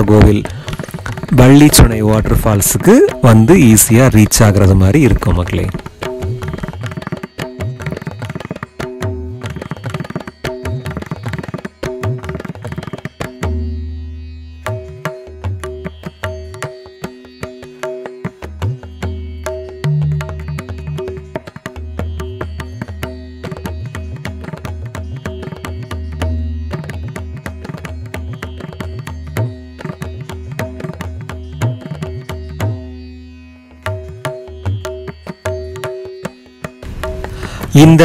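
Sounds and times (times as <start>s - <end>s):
indian classical instrumental music: 0.0s - 38.0s.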